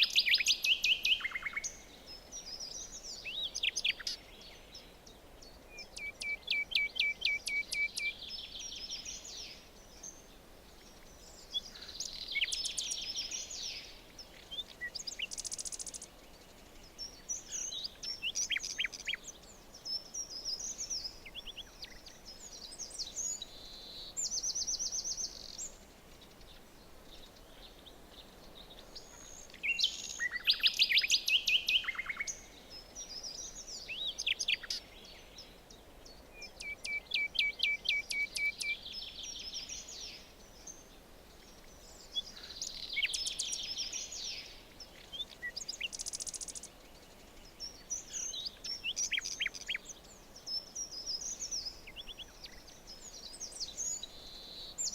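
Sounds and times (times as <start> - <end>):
faint steady hiss: 0.0 - 54.9
songbirds singing: 0.0 - 54.9.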